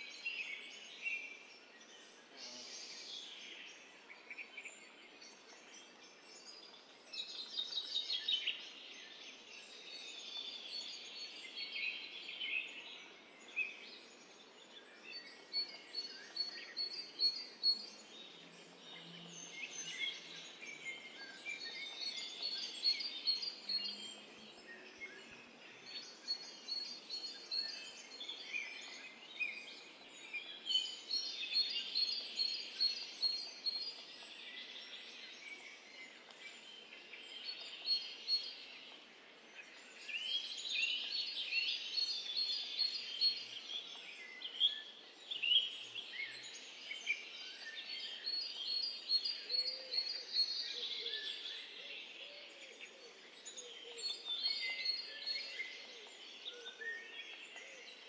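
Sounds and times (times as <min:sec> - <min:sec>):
birds singing and chirping: 0:00.0 - 0:58.0
faint outdoor hiss: 0:00.0 - 0:58.0.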